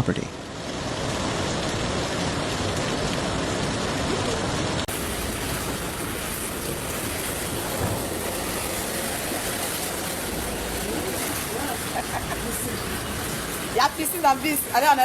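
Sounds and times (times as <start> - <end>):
floodwater rushing: 0.3 - 15.0.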